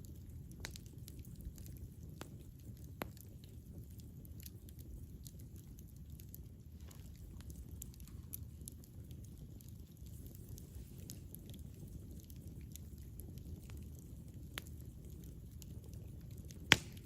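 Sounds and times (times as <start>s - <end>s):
campfire flames rumbling: 0.0s - 17.0s
wood crackling and popping: 0.0s - 17.0s.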